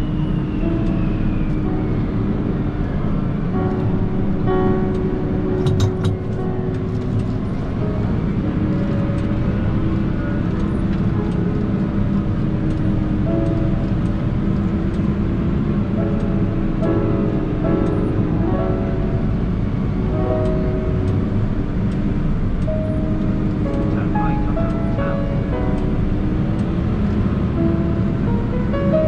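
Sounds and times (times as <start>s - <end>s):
music playing: 0.0s - 29.0s
tractor engine drone: 0.0s - 29.0s.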